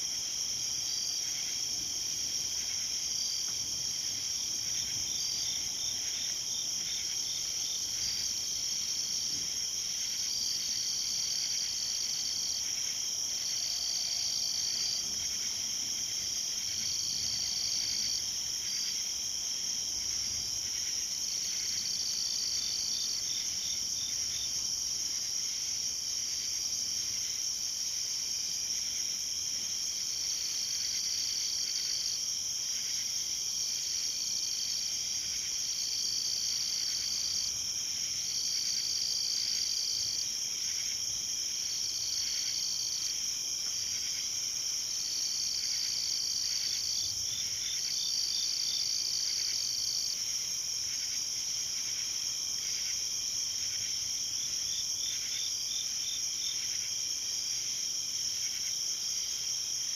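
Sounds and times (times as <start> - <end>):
insect drone: 0.0 - 59.9
steady insect trills: 0.0 - 59.9
rapid insect chirps: 0.1 - 59.9.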